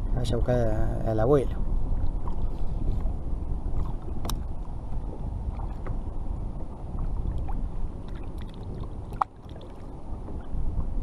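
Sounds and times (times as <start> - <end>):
water lapping against kayak: 0.0 - 11.0
wind buffeting microphone: 0.0 - 11.0.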